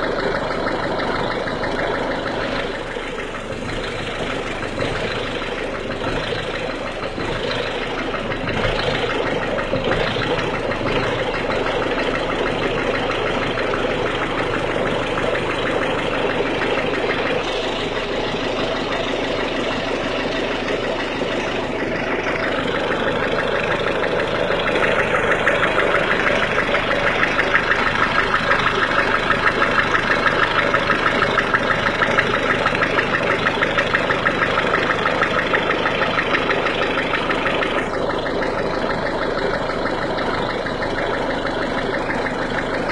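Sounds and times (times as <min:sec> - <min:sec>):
diesel engine idling with clatter: 0:00.0 - 0:42.9.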